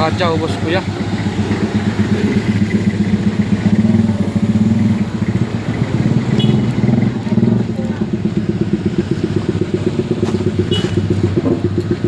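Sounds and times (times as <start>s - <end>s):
vehicle engine low pulsing drone: 0.0s - 12.0s.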